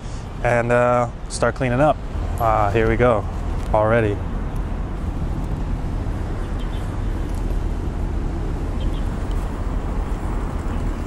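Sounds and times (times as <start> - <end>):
low rumble of city traffic: 0.0 - 11.0.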